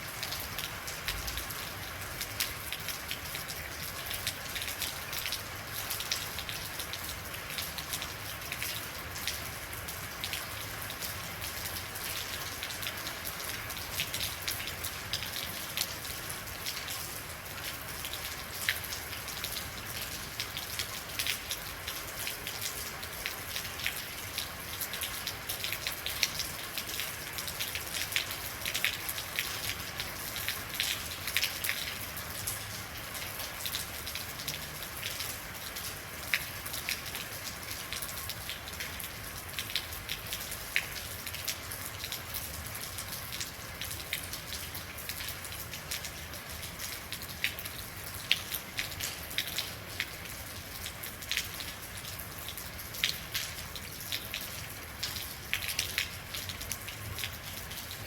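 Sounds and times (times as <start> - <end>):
rain pattering on hard surface: 0.0 - 58.0.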